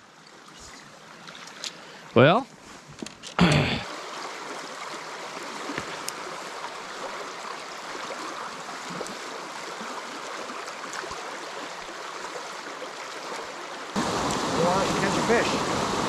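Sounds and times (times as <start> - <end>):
creek water rushing: 0.0 - 2.7, 3.4 - 16.0.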